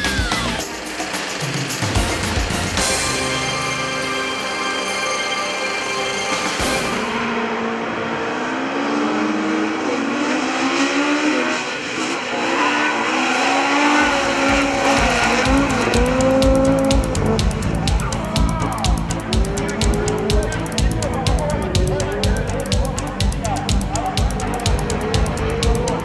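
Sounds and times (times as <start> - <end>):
racing car engines revving: 0.0 - 4.0, 6.5 - 26.0.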